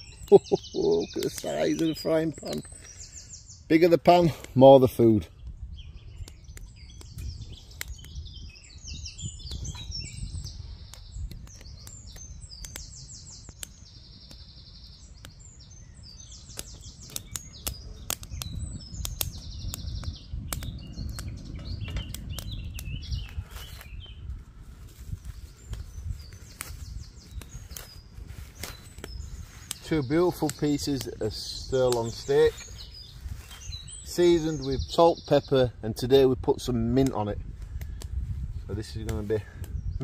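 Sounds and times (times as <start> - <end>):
songbirds trilling: 0.0 - 40.0
wood fire crackling: 0.0 - 40.0.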